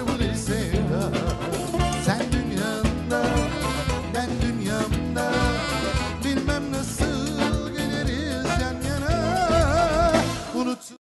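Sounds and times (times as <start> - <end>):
drum kit beat: 0.0 - 10.8
live band playing instrumental: 0.0 - 10.9.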